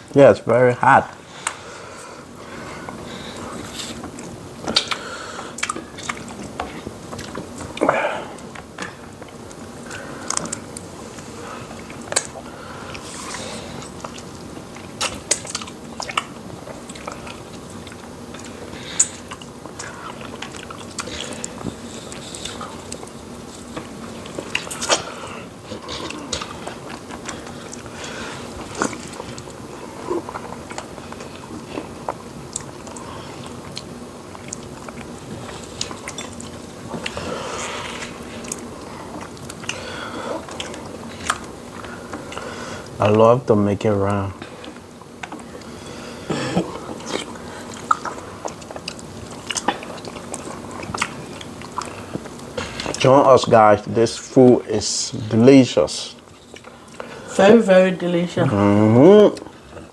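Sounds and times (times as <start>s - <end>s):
people chewing and lip smacking: 1.1s - 43.2s, 44.0s - 54.7s, 56.0s - 57.4s, 58.5s - 59.9s.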